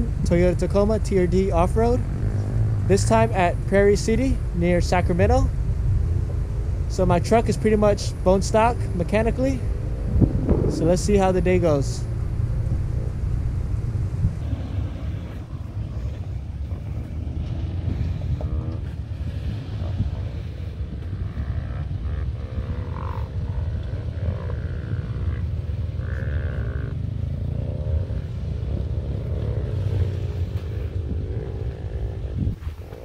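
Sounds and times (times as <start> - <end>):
truck engine running low: 0.0 - 33.0.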